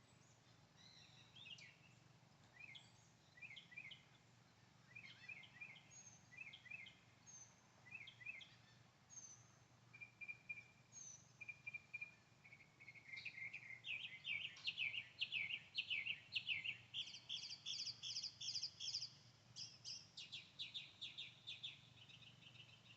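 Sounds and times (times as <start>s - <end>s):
small birds chirping and singing: 0.0s - 22.9s.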